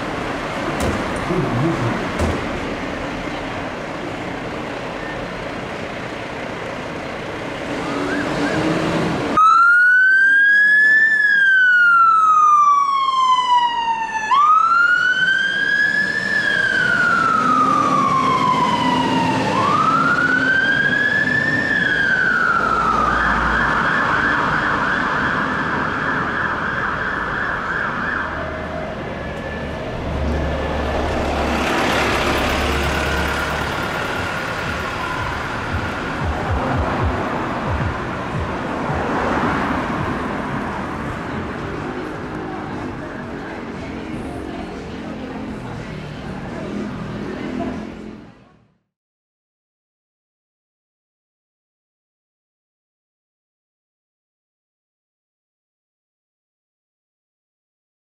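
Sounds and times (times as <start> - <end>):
street traffic: 0.0 - 48.9.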